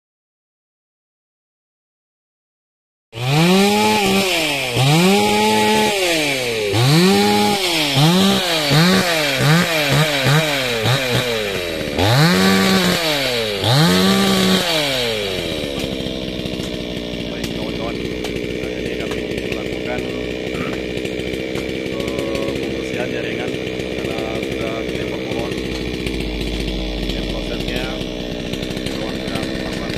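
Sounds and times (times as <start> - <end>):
chainsaw revving: 3.2 - 29.9.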